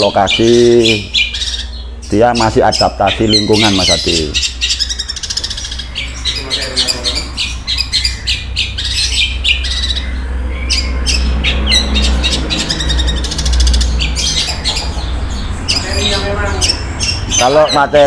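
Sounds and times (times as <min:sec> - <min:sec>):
bird chattering song: 0:00.0 - 0:18.0.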